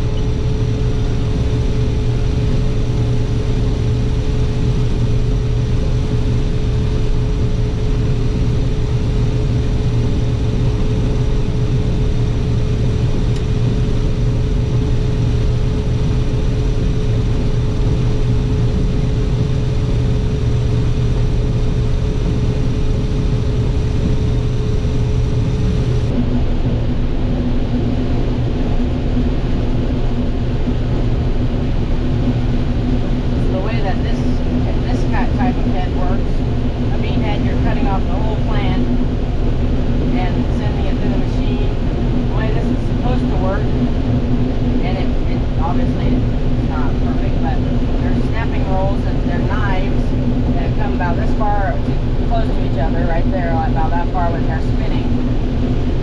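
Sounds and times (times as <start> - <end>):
combine harvester drone: 0.0 - 56.0
machine whine: 0.0 - 56.0.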